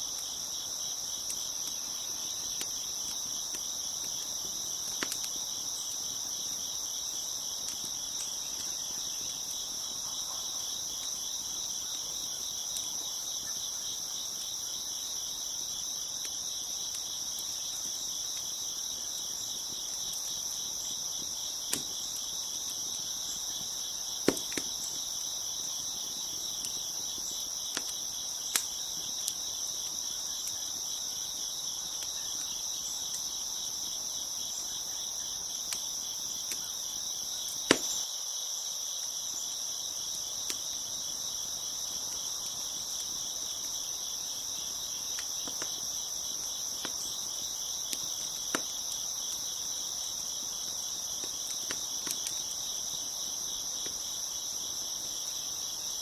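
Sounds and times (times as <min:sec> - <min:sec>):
wood fire popping and crackling: 0:00.0 - 0:38.0, 0:40.0 - 0:55.3
crickets chirping: 0:00.0 - 0:56.0.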